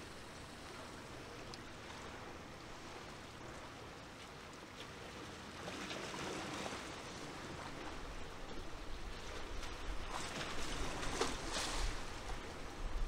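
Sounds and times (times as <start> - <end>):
small waves washing ashore: 0.0 - 13.0.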